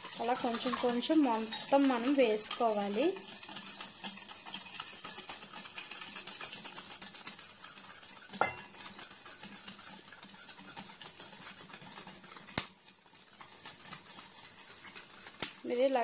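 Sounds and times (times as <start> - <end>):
whisk beating in metal bowl: 0.0 - 16.0.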